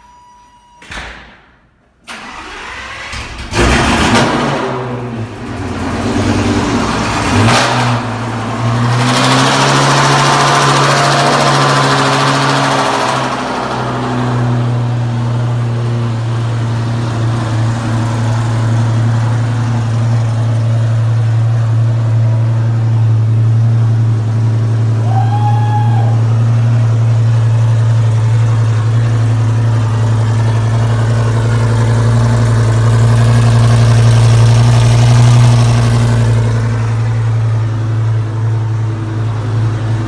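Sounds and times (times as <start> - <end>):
sports car engine revving and idling: 3.2 - 40.0.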